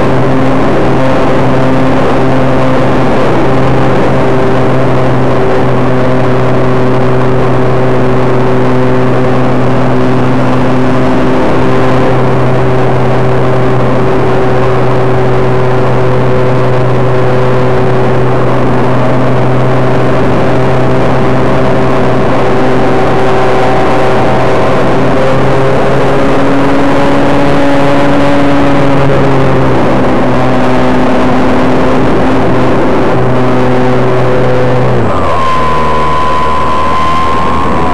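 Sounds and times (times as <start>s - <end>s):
model airplane motor running: 0.0s - 37.9s.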